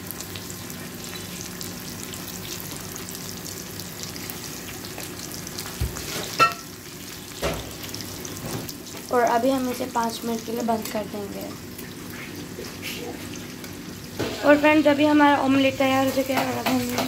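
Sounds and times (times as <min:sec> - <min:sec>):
eggs sizzling in a frying pan: 0:00.0 - 0:17.0.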